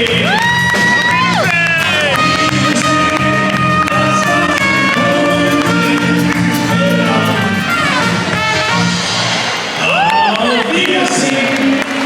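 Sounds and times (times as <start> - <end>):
live band music: 0.0 - 10.2.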